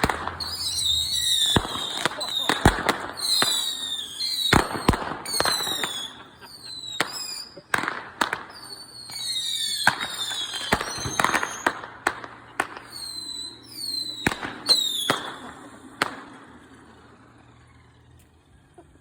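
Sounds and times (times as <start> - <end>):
fireworks cracking and popping: 0.0 - 19.0
fireworks whistling: 0.0 - 19.0.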